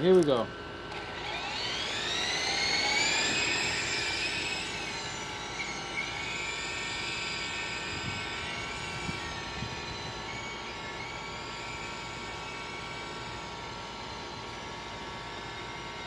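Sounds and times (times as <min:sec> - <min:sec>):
rc helicopter rotor whine: 0:00.0 - 0:16.0.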